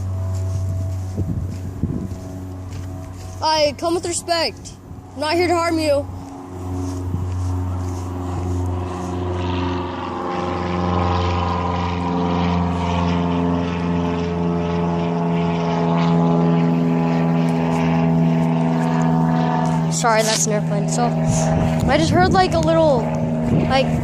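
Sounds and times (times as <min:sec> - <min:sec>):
airplane engine drone: 0:00.0 - 0:24.0.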